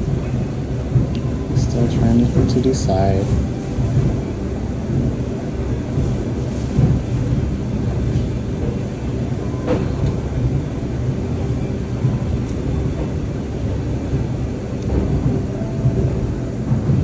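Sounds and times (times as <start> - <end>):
laundry machine rumbling: 0.0 - 17.0.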